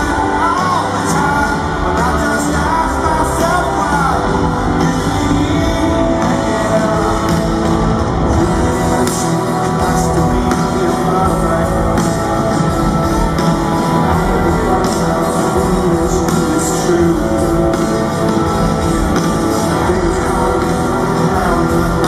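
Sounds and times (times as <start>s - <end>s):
guitars: 0.0s - 22.0s
person singing: 0.0s - 22.0s
rock band playing: 0.0s - 22.0s.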